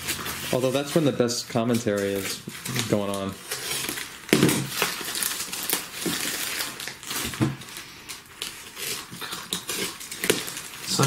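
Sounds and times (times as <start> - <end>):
box cutter slitting packaging: 0.0 - 7.7, 8.5 - 11.0
plastic wrapping crinkling: 0.0 - 11.0.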